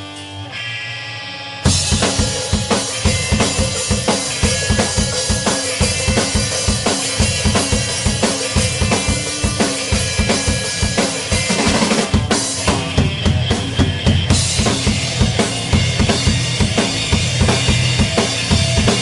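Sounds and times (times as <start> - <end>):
drum kit playing rock beat: 0.0 - 19.0
strummed electric guitar: 0.0 - 19.0.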